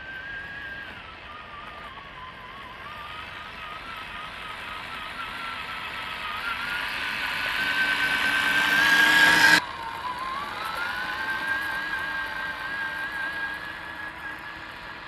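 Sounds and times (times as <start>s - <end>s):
rc car electric motor whining: 0.0s - 15.0s.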